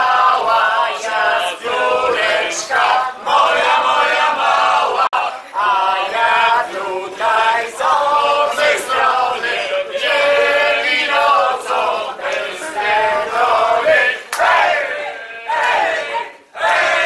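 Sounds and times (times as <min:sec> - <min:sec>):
group singing in chorus: 0:00.0 - 0:17.0.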